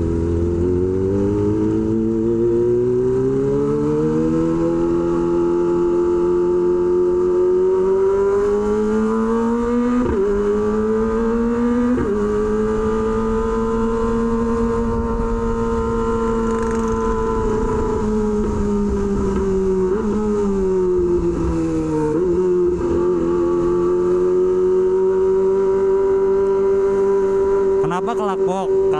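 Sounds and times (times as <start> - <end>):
motorcycle engine revving: 0.0 - 28.9
road and wind noise: 0.0 - 28.9.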